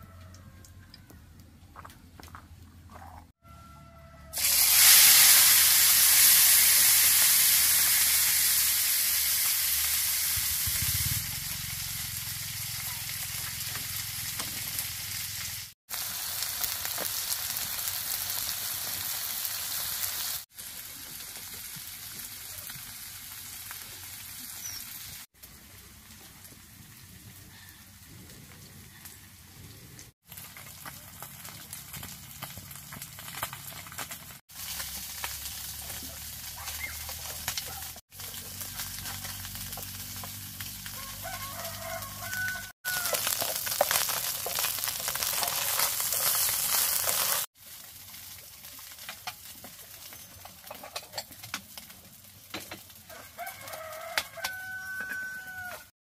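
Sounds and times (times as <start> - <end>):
fish sizzling in hot oil: 4.4 - 27.1, 30.2 - 55.8.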